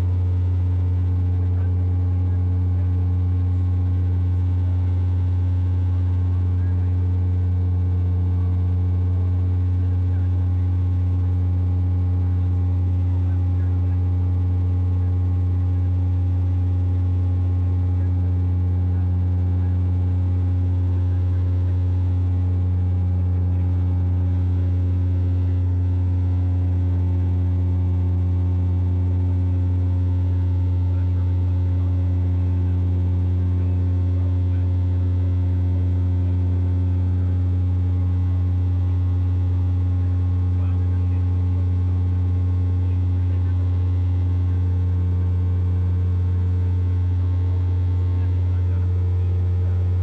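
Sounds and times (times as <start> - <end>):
propeller plane droning: 0.0 - 11.0, 14.6 - 50.0.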